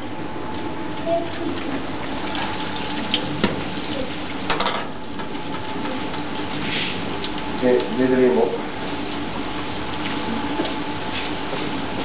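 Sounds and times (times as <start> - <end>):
dough sizzling in hot oil: 1.6 - 12.0.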